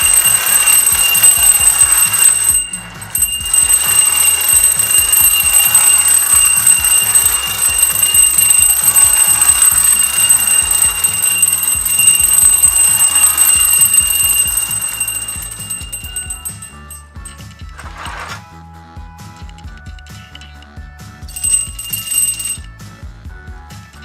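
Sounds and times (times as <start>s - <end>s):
toy bell ringing rapidly: 0.0s - 18.2s, 21.3s - 22.8s.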